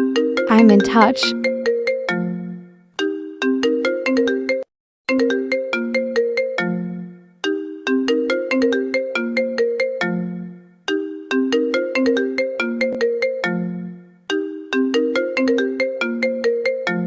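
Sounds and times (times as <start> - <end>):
phone ringtone melody: 0.0 - 17.0.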